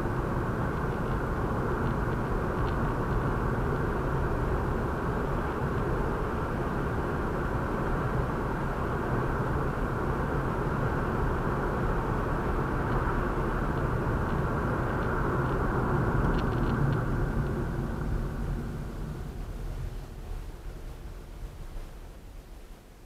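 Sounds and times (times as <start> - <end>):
car driving at speed: 0.0 - 20.7.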